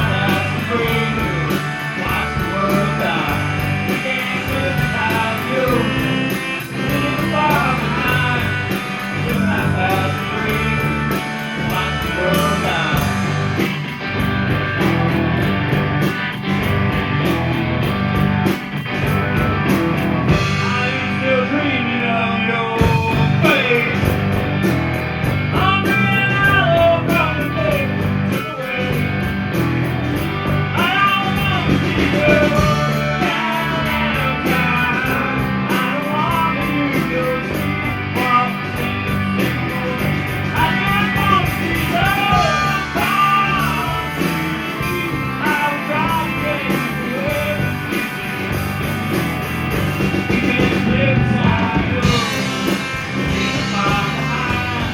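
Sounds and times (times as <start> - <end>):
bass and drum beat: 0.0 - 54.9
electric guitar bending melody: 0.0 - 54.9
live rock band playing: 0.0 - 54.9.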